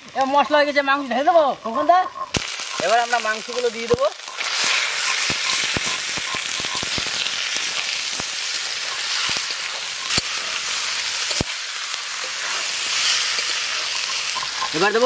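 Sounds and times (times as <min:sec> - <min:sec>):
meat sizzling in hot oil: 0:02.2 - 0:15.0.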